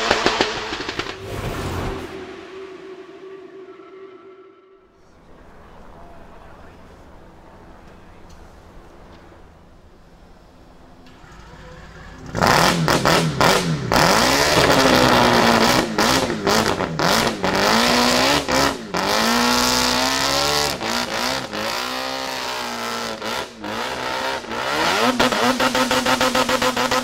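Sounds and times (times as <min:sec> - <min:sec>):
rotary engine revving: 0:00.0 - 0:06.0, 0:06.7 - 0:27.0.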